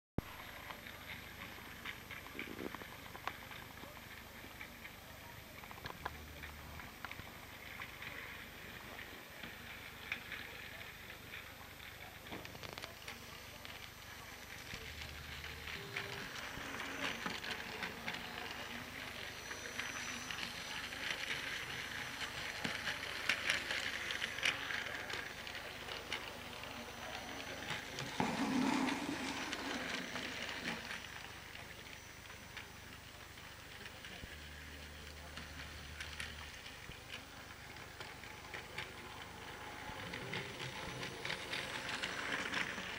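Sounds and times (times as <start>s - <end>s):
wheels clicking over track joints: 0.4s - 42.9s
toy train motor whirring: 0.5s - 42.9s.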